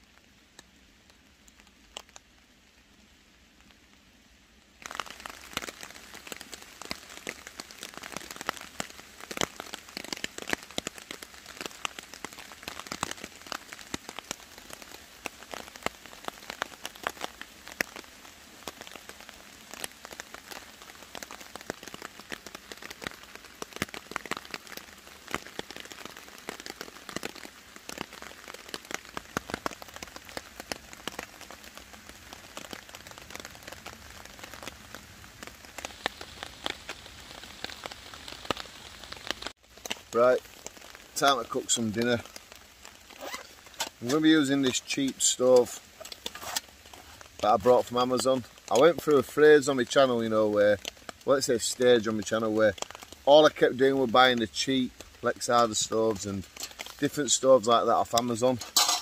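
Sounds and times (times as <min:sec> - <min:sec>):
heavy rain on woodland: 0:00.0 - 0:59.0.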